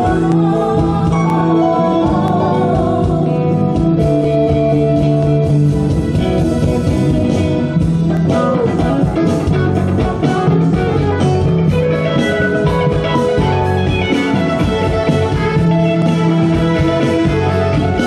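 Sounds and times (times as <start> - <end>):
guitar-led music with beat: 0.0 - 18.0.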